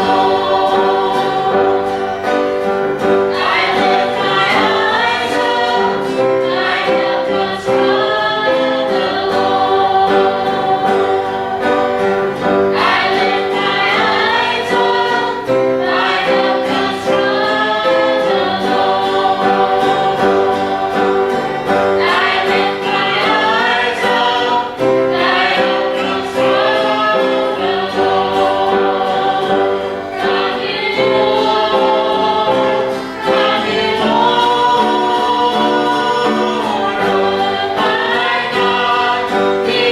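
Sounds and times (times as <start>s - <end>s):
group singing gospel song: 0.0s - 39.9s
piano accompaniment: 0.0s - 39.9s.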